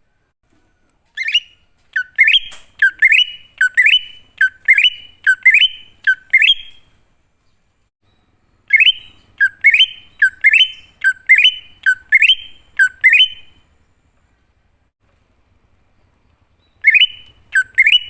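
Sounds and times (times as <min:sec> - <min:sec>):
bird singing rising phrases: 0:01.2 - 0:07.0, 0:07.6 - 0:14.7, 0:15.8 - 0:18.0.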